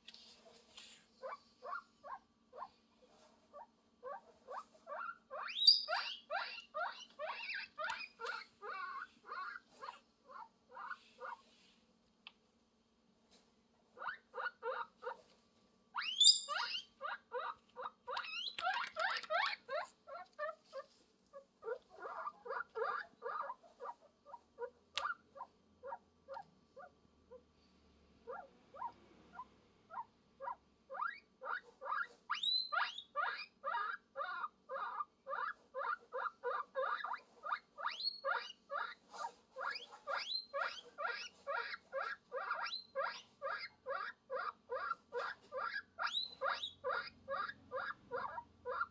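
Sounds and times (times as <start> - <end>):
guinea pig squeaking: 1.2 - 2.8, 3.5 - 11.5, 14.0 - 15.3, 15.9 - 27.4, 28.2 - 48.9.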